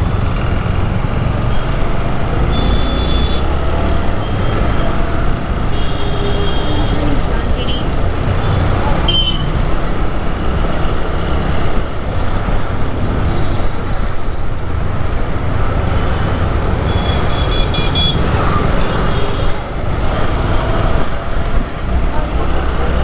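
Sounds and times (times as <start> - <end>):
surrounding traffic: 0.0 - 23.0.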